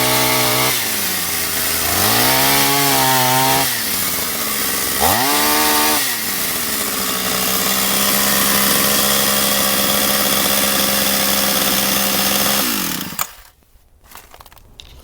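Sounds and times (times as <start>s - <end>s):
chainsaw idling and running down: 0.0s - 13.6s.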